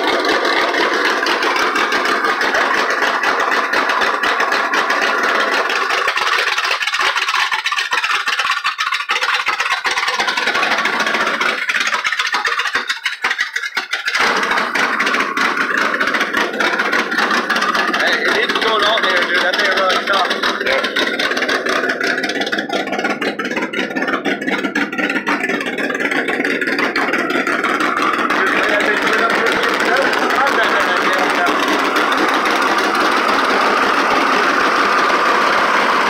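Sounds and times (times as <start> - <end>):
rough rattly truck engine: 0.0 - 36.0.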